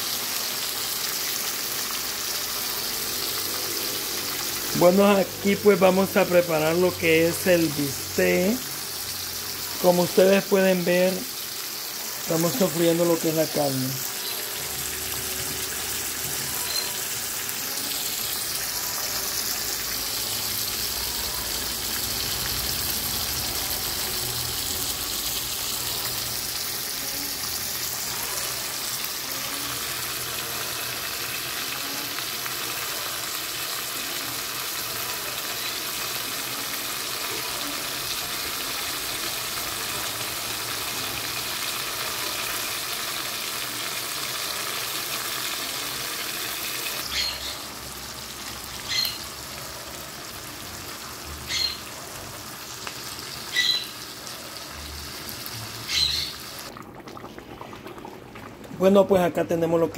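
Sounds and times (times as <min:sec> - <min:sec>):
steaks sizzling in oil: 0:00.0 - 0:56.7.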